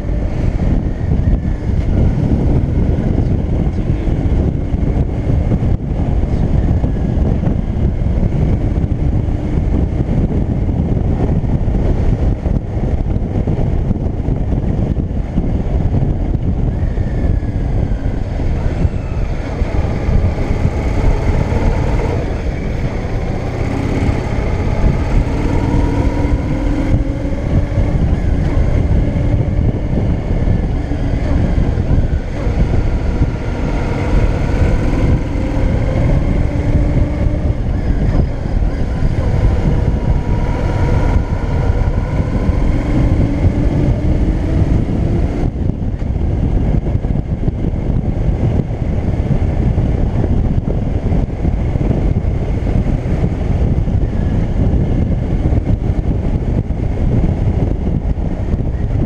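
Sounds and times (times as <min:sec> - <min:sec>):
motorcycle engine revving: 0:00.0 - 0:59.0
wind rumble on microphone: 0:00.0 - 0:59.0.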